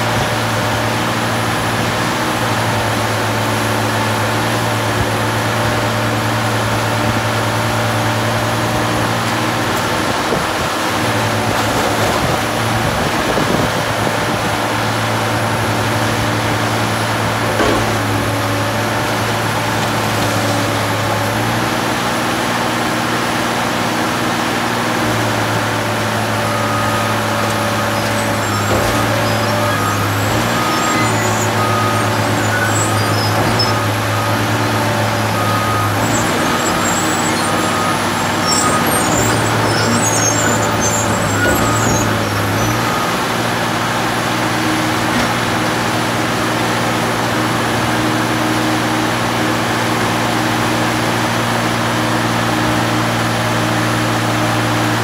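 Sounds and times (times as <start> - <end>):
metal baler engine running: 0.0 - 55.0.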